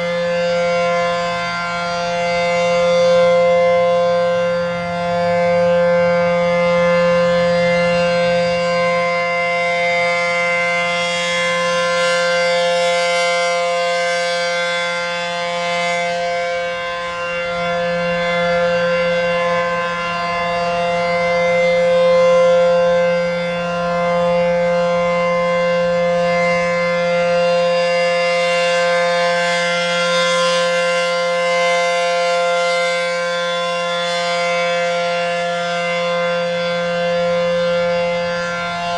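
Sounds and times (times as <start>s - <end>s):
shrill rotating siren: 0.0s - 38.9s.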